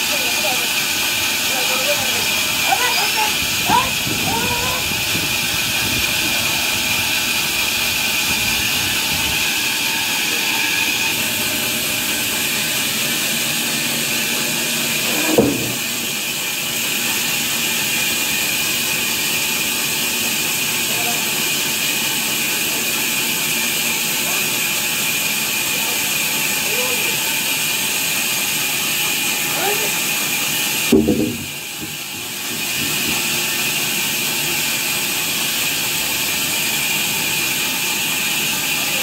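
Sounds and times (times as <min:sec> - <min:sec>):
band saw cutting through log: 0:00.0 - 0:39.0.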